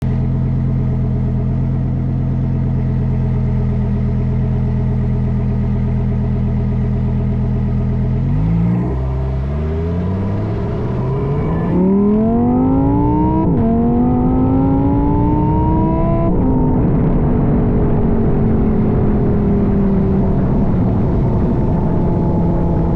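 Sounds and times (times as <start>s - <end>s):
car engine revving with gear shifts: 0.0s - 22.9s.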